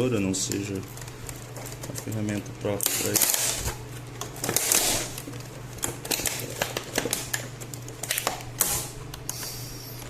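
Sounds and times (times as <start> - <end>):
plastic wrapping crinkling: 0.4 - 8.5.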